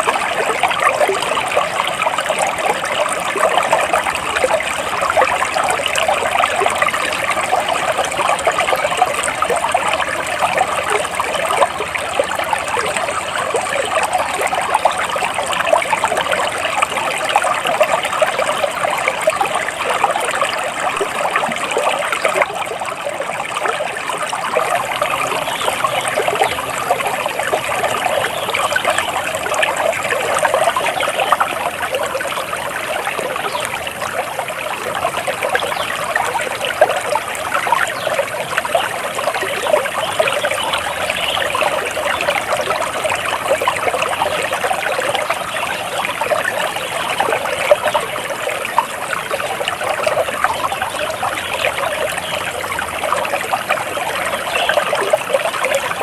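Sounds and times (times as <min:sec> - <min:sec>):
stream trickling: 0:00.0 - 0:56.0.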